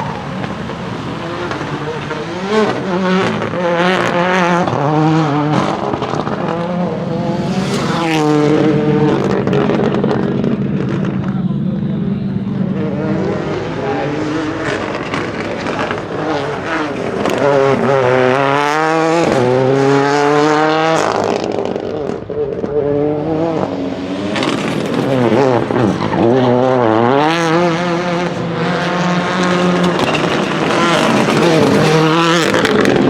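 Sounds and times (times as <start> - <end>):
engine crackles: 0.0 - 33.0
rally car engine revving: 0.0 - 33.0.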